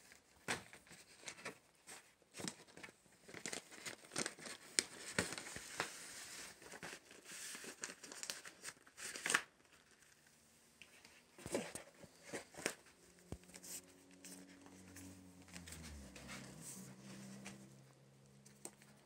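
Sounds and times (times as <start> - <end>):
paper and card rustling: 0.1 - 17.8.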